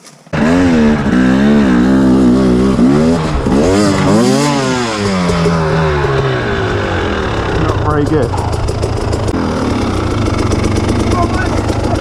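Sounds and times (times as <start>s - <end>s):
two-stroke motorbike engine revving: 0.3s - 12.0s.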